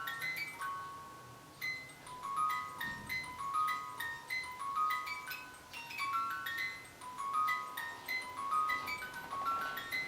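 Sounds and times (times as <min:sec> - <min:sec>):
high bell-like melody: 0:00.0 - 0:10.0.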